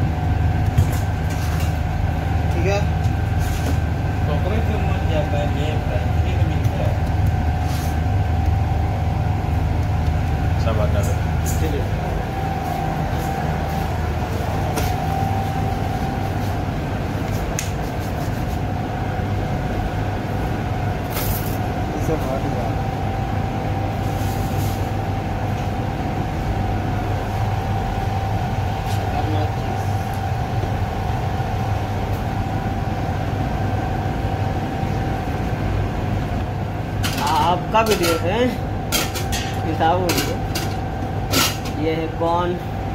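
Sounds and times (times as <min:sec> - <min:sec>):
kitchen machinery humming and whining: 0:00.0 - 0:42.9.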